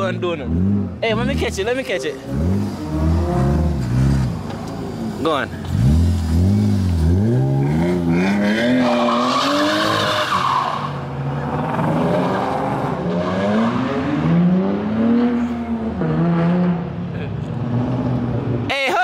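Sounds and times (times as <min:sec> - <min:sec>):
car engine revving through gears: 0:00.0 - 0:18.6.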